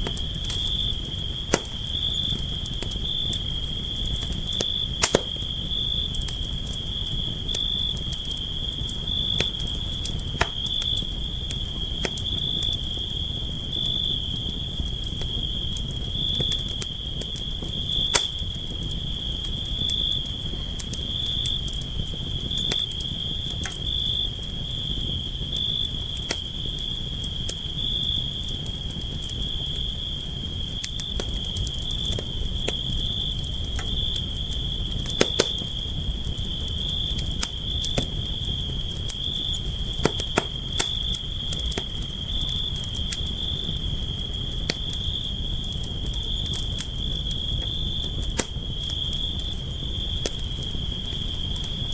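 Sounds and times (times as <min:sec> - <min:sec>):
campfire crackling and popping: 0:00.0 - 0:51.9
cricket trill: 0:00.0 - 0:51.9.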